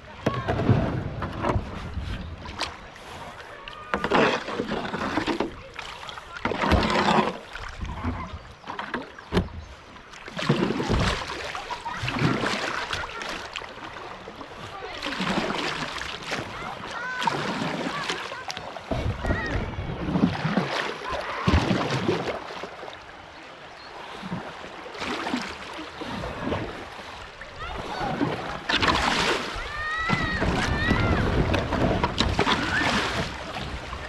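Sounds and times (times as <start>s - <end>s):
kayak paddle splashing in water: 0.0s - 34.0s.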